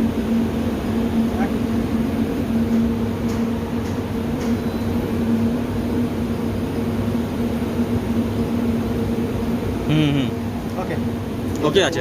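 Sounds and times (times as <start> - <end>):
fan unit humming: 0.0 - 12.0.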